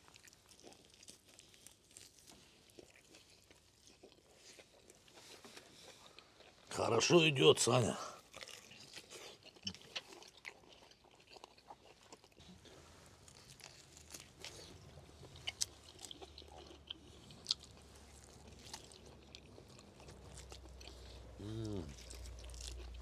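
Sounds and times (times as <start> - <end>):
people chewing food: 0.0 - 23.0.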